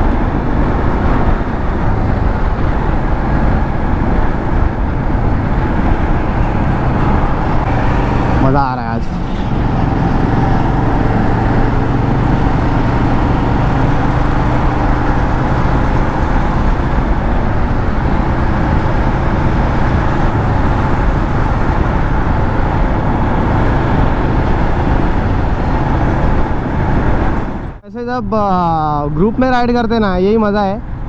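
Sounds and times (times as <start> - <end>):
motorcycle engine cruising: 0.0 - 27.8
wind on microphone: 0.0 - 28.4.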